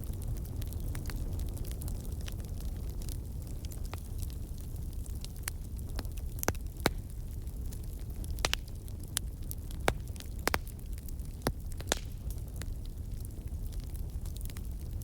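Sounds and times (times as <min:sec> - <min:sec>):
low rumble of burning: 0:00.0 - 0:15.0
wood fire crackling: 0:00.0 - 0:15.0.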